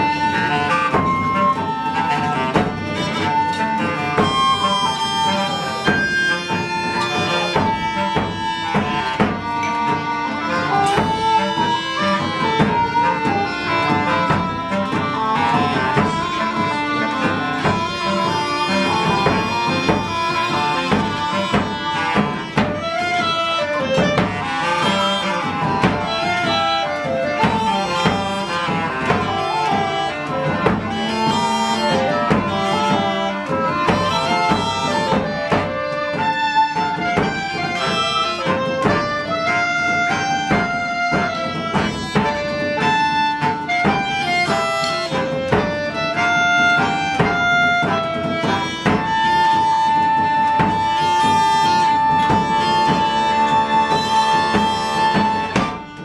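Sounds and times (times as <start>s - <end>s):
reed instruments playing folk tune: 0.0s - 56.0s
steady drum percussion: 0.0s - 56.0s.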